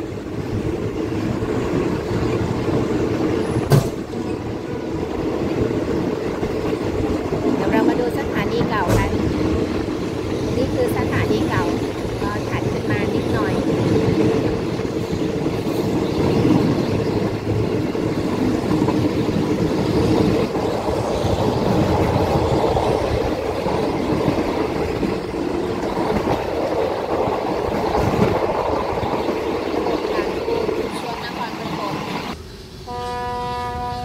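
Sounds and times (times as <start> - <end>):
train wheels rumbling and clattering: 0.0 - 34.0.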